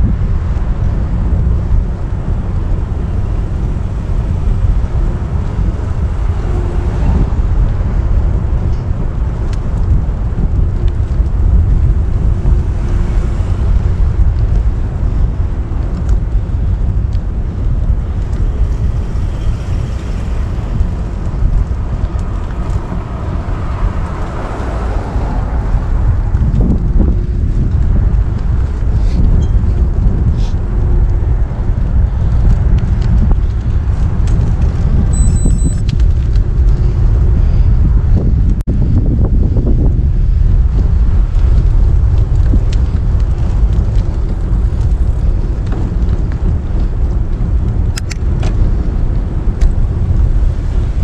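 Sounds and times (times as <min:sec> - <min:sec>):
vehicle rumbling: 0:00.0 - 0:51.0
wind buffeting microphone: 0:00.0 - 0:51.0.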